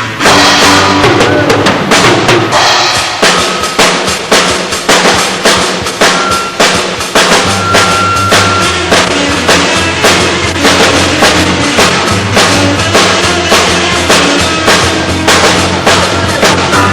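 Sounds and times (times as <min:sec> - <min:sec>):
bass guitar notes: 0:00.0 - 0:04.4, 0:05.7 - 0:16.9
drum kit beat: 0:00.0 - 0:16.9
rock band playing live: 0:00.0 - 0:16.9.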